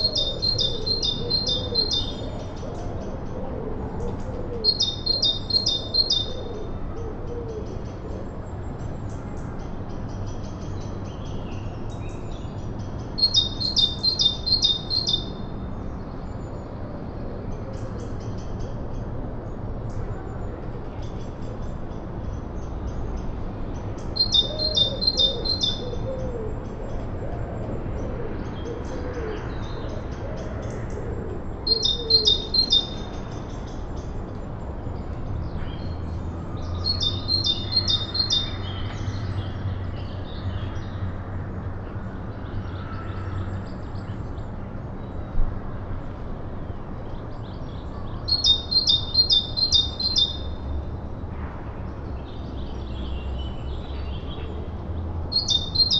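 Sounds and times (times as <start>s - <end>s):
songbird singing: 0.0s - 41.2s, 41.9s - 51.1s, 51.9s - 55.9s.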